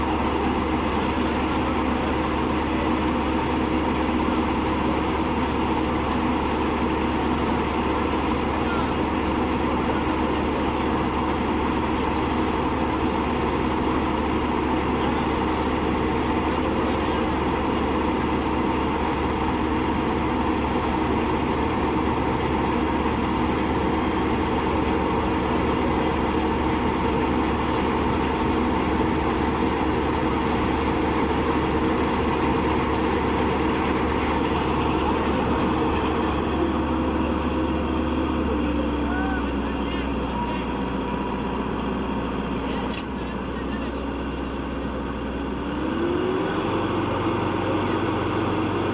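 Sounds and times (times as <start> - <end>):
small engine running: 0.0 - 43.3.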